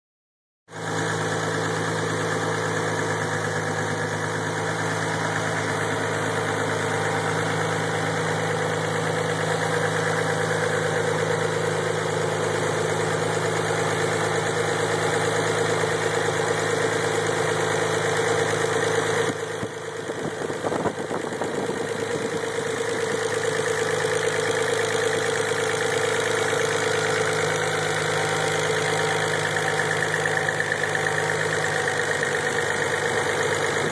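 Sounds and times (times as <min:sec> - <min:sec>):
engine idling: 0:00.7 - 0:33.9.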